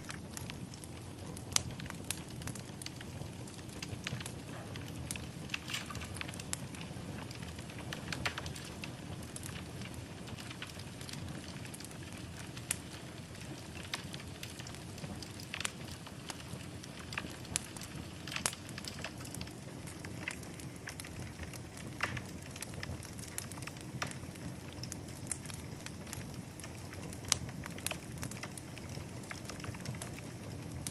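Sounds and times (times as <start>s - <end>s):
fire crackling and popping: 0.0s - 30.9s
fire rumbling: 0.0s - 30.9s.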